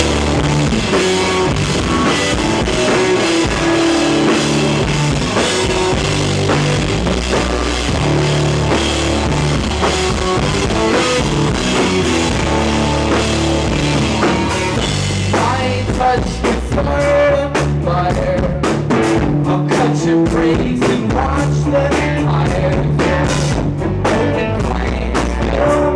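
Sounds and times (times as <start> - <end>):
rock band playing instrumental: 0.0 - 25.8.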